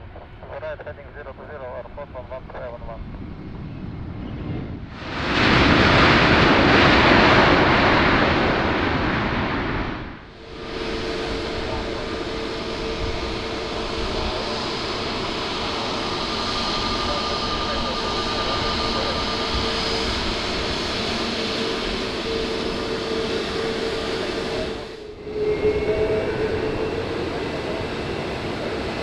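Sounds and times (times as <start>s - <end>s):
jet engine noise with whine: 0.0s - 29.0s.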